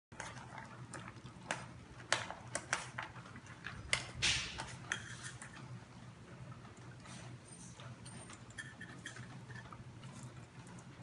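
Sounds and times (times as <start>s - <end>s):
dog eating from metal bowl: 0.1s - 11.0s.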